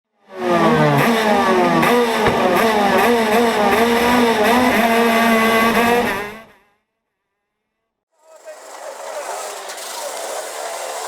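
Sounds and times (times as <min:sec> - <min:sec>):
kart engine: 0:00.2 - 0:06.5, 0:08.2 - 0:11.0.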